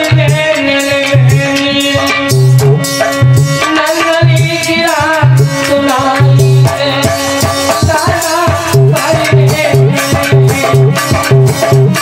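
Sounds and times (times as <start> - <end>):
drum beats and percussion: 0.0 - 12.0
harmonium chords: 0.0 - 12.0
man singing: 0.0 - 12.0.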